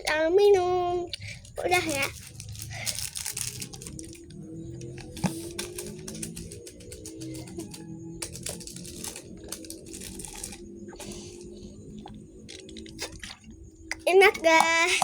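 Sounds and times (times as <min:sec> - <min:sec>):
child chewing: 0:00.0 - 0:15.0
faint steady hum: 0:00.0 - 0:15.0
crackling clicks: 0:01.1 - 0:14.9.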